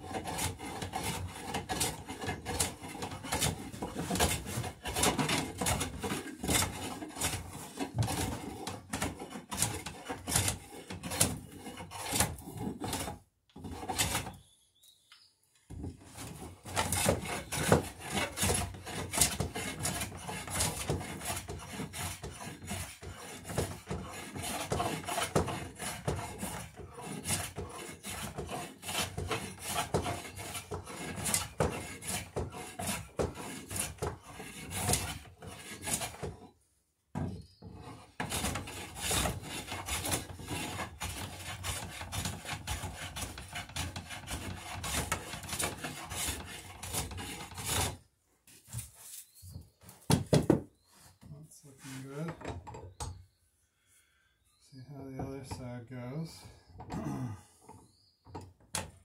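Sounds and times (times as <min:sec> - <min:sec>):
hand plane cutting wood: 0:00.0 - 0:14.5, 0:15.7 - 0:36.6, 0:37.2 - 0:50.9, 0:51.7 - 0:53.0.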